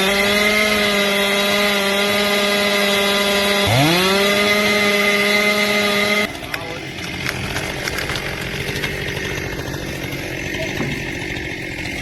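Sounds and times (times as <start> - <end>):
chainsaw at full throttle: 0.0 - 12.0.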